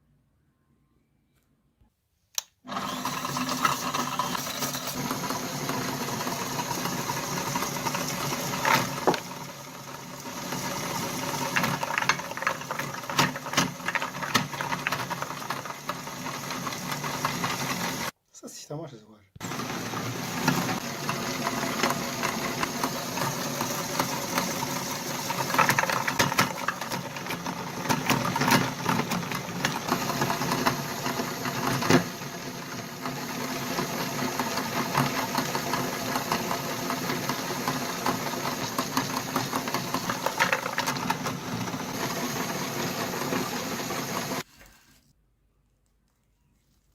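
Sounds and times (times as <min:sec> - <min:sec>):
meat grinder crunching and clicking: 0:02.7 - 0:18.1, 0:19.4 - 0:44.5.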